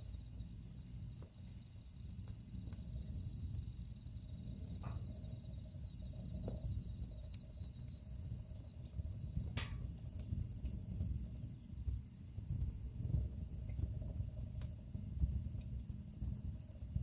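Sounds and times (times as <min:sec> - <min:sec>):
low rumble of flames: 0:00.0 - 0:17.0
wood fire crackles and pops: 0:00.0 - 0:17.0.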